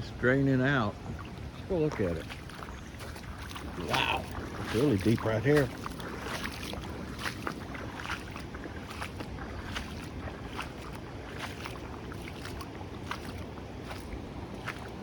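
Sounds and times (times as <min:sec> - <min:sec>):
floodwater flowing: 0:00.0 - 0:15.0
water trickles and spatters: 0:00.0 - 0:15.0.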